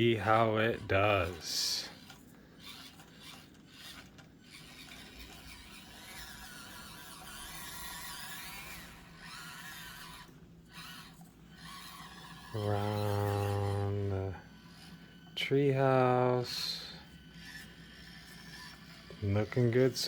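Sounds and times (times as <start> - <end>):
small electric motor whine: 0.0 - 20.0
toy truck scraping: 0.0 - 20.0.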